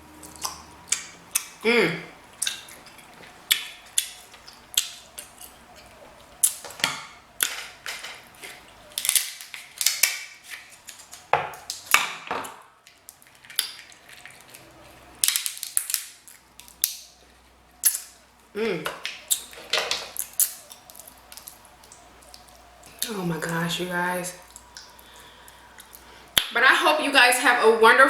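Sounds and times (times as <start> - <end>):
crab shells cracking: 2.4 - 23.6, 24.4 - 26.6.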